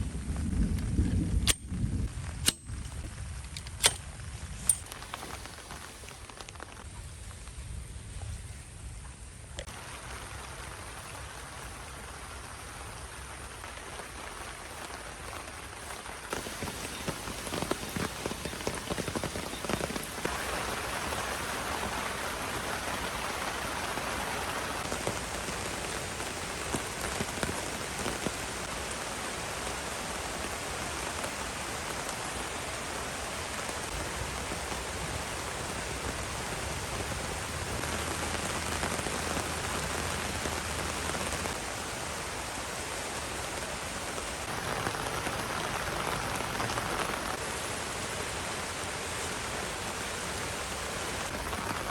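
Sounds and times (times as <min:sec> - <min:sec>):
heavy rain: 0:09.6 - 0:51.9.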